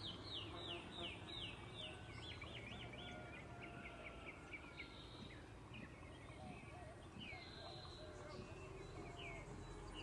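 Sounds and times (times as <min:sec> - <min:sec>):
birds singing and calling: 0:00.0 - 0:10.0.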